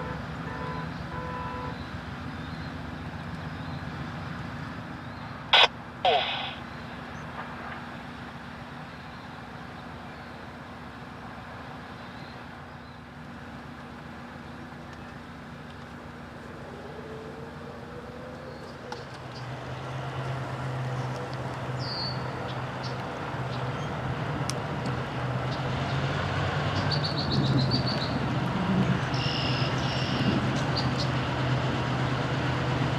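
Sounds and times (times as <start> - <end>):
locomotive diesel engine droning: 5.0 - 11.9, 12.6 - 32.9.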